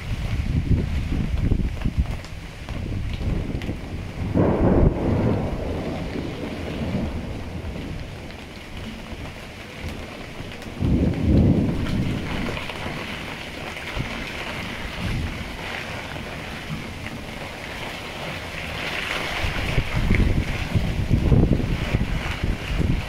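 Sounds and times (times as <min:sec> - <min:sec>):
heavy rain hissing: 0:00.0 - 0:23.0
wind buffeting microphone: 0:00.0 - 0:23.0
wind gusting: 0:00.0 - 0:23.0.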